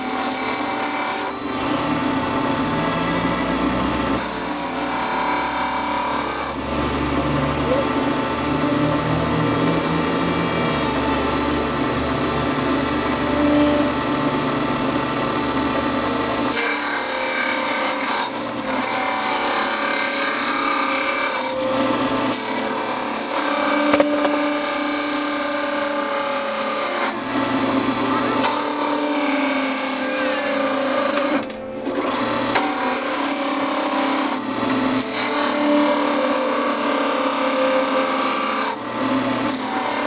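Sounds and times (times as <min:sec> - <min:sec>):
disc sander grinding wood: 0:00.0 - 0:40.0.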